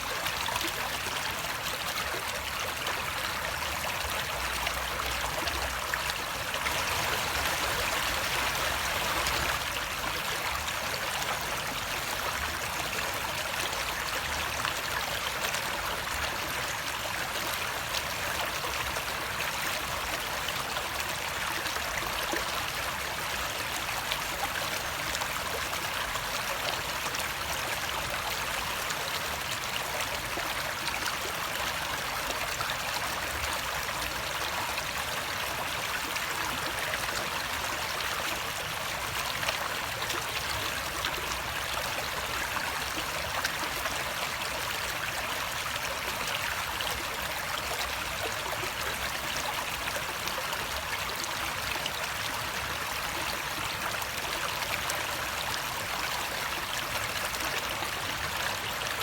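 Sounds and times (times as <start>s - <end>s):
water rushing and trickling: 0.0s - 59.0s.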